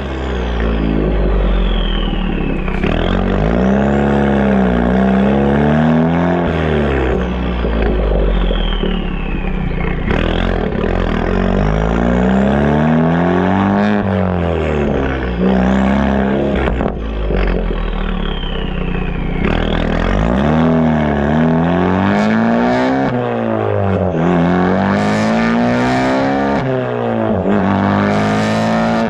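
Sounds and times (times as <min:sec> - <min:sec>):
car exhaust accelerating: 0:00.0 - 0:29.0.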